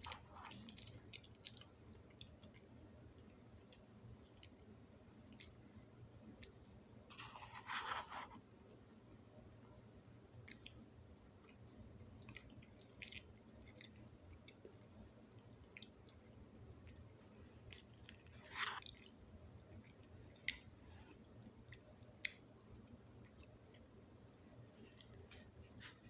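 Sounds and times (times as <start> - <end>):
small wet clicks: 0.0 - 8.4, 10.4 - 10.8, 11.4 - 23.9
faint chewing: 0.0 - 26.0.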